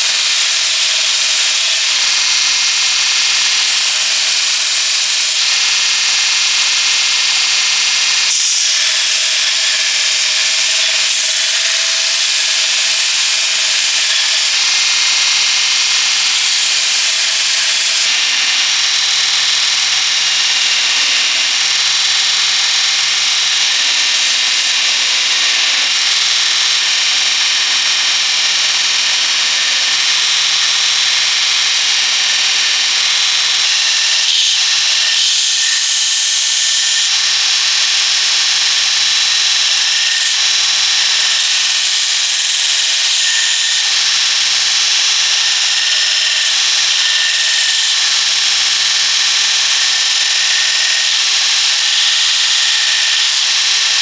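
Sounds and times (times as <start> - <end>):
electric power tool running: 0.0 - 54.0.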